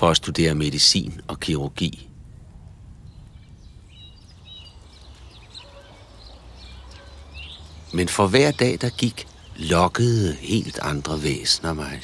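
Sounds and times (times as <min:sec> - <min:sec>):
faint bird chirps: 0:00.0 - 0:12.0
low outdoor rumble: 0:00.0 - 0:12.0.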